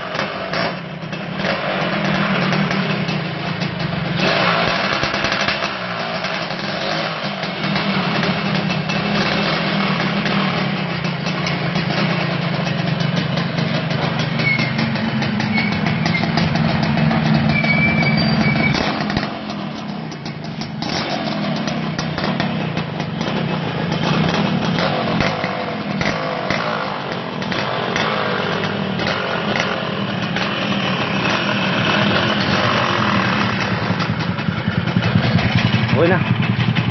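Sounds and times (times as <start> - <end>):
two-stroke motorcycle engine: 0.0 - 36.9.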